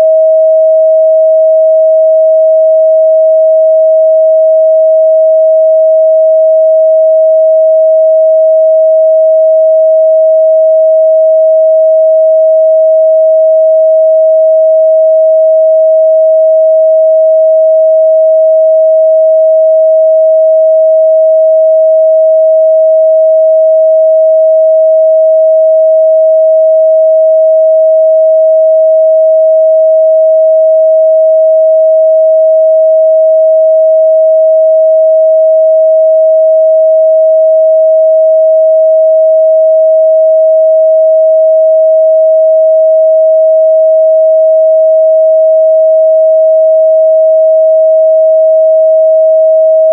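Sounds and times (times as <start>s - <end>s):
sine test tone: 0.0s - 49.9s.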